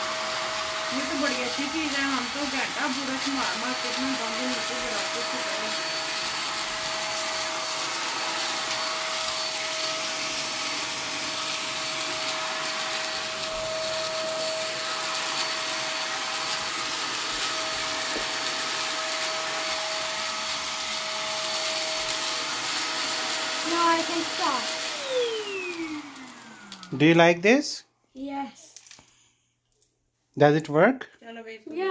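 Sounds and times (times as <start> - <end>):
vacuum cleaner running: 0.0 - 27.6.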